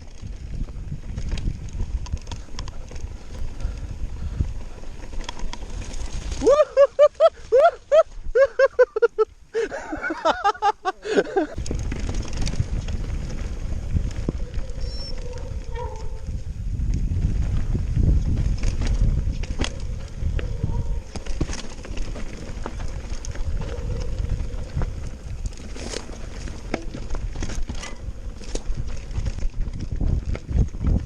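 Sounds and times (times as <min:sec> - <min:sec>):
wind on microphone: 0:00.0 - 0:08.5, 0:11.5 - 0:31.0
bike tyres rumbling on trail: 0:00.0 - 0:31.0.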